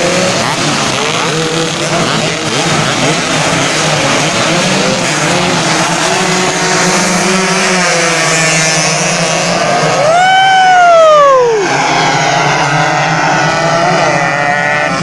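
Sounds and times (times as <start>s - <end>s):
motorcycles revving hard: 0.0s - 15.0s.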